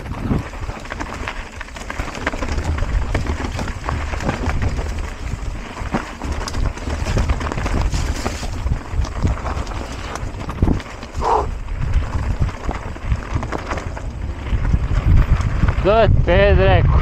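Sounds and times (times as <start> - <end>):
mountain bike clattering on trail: 0.0 - 16.1
tyres rolling over dirt: 0.0 - 16.1
wind on microphone: 0.0 - 17.0.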